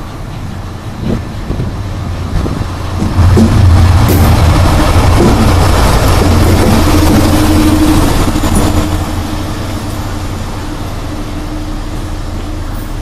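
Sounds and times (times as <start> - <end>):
diesel locomotive engine hum: 0.0 - 13.0.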